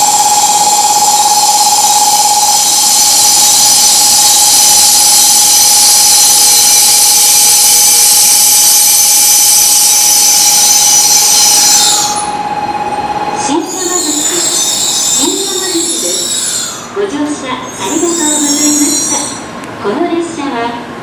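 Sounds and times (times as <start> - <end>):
ringing tone: 0.0 - 17.0, 17.7 - 19.5
train braking whine and squeal: 0.0 - 19.6.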